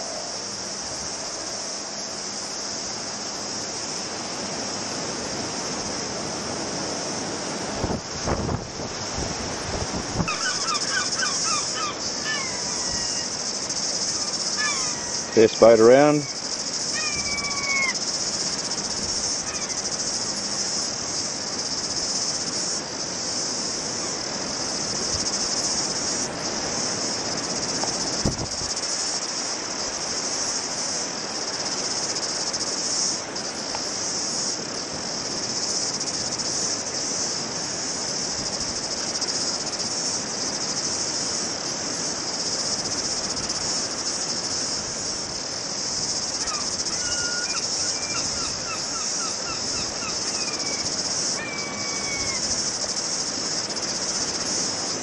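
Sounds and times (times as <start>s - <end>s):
cicadas chorus: 0.0s - 55.0s.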